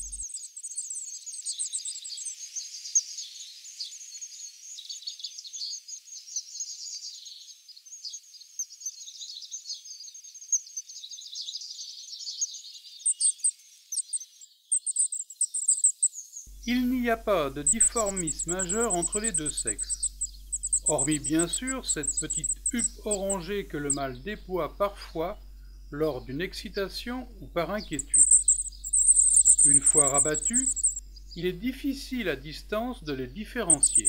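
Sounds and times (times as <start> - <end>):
nestlings chirping high-pitched: 0.0 - 34.0.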